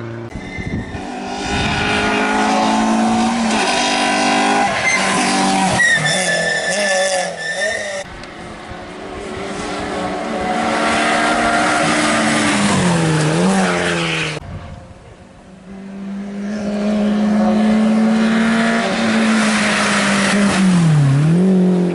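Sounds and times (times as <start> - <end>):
rally car engines revving: 0.0 - 21.9.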